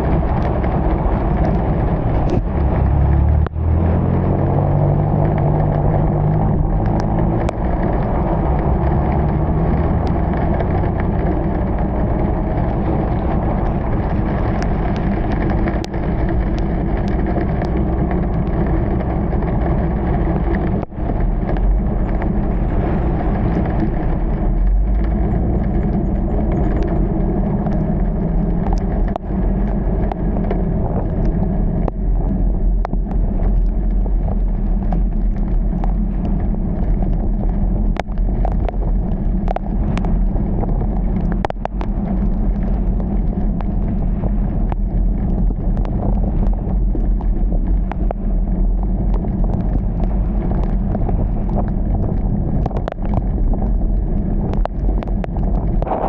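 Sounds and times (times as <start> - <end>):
engine and tyres on wet road: 0.0 - 56.0.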